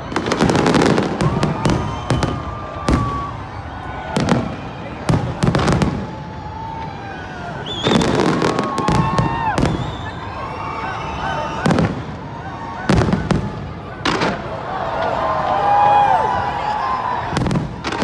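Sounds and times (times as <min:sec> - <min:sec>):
fireworks whistling: 0:00.0 - 0:14.6, 0:17.3 - 0:18.0
fireworks bangs: 0:00.0 - 0:18.0.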